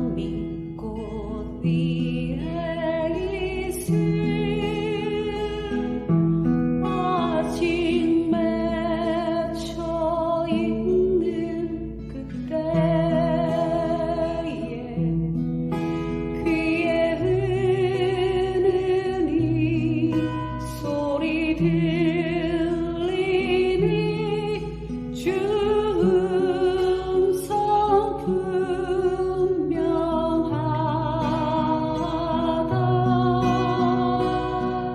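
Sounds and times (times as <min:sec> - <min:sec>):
acoustic guitar: 0:00.0 - 0:34.9
person singing with vibrato: 0:00.0 - 0:34.9.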